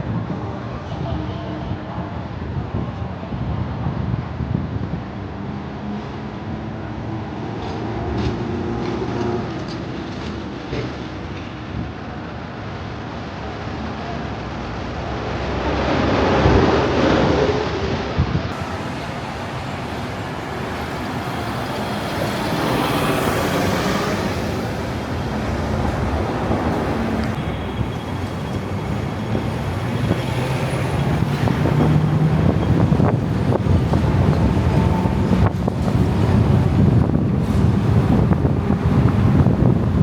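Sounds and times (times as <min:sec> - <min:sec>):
urban vehicle rumble: 0:00.0 - 0:40.0.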